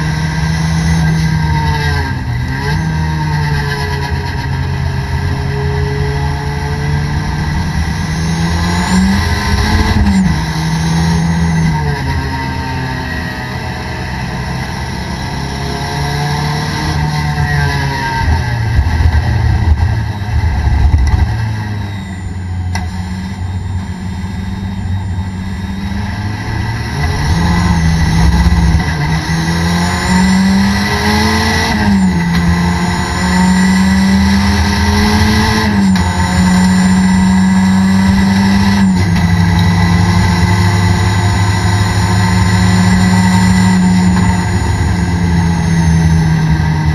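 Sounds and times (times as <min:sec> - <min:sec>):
car engine revving through gears: 0:00.0 - 0:46.9.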